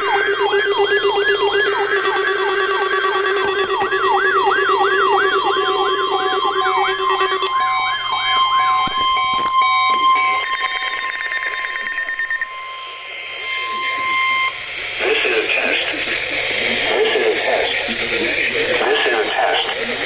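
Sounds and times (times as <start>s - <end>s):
electronic siren sweeping down: 0.0s - 20.0s.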